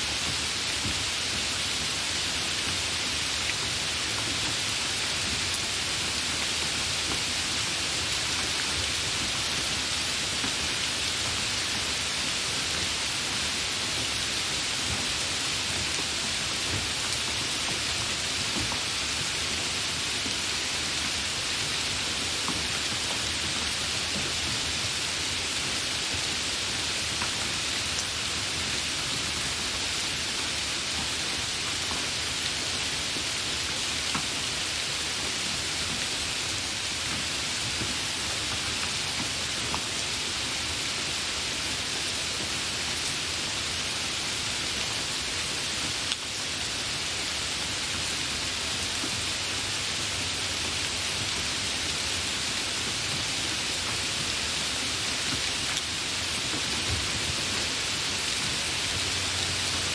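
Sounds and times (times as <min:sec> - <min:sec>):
hard rain falling: 0:00.0 - 0:59.9.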